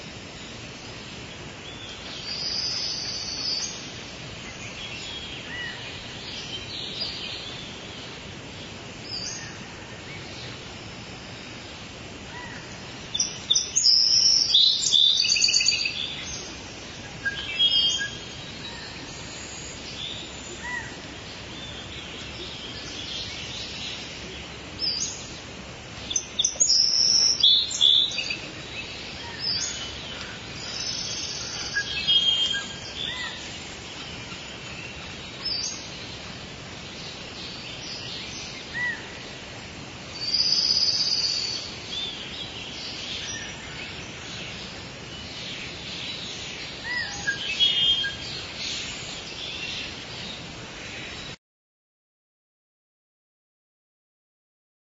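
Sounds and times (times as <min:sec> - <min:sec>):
birds calling and chirping: 0:00.0 - 0:51.4
steady background hiss: 0:00.0 - 0:51.4.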